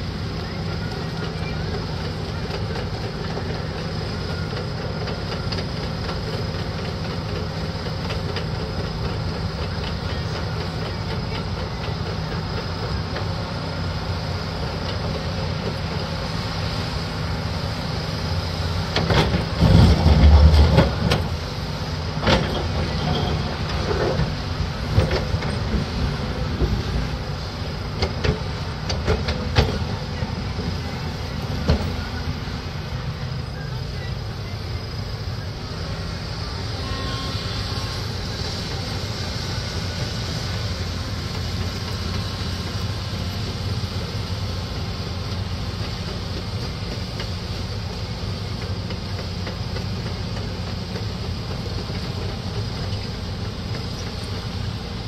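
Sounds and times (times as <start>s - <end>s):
large engine humming: 0.0s - 55.0s.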